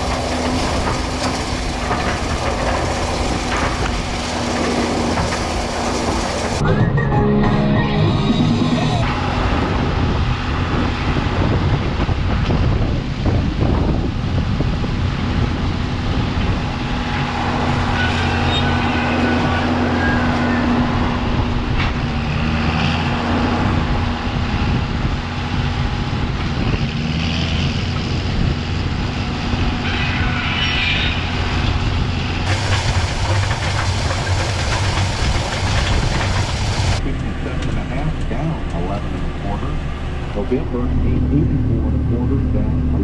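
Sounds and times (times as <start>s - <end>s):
tractor engine running: 0.0s - 7.1s, 8.0s - 29.8s, 31.3s - 43.0s.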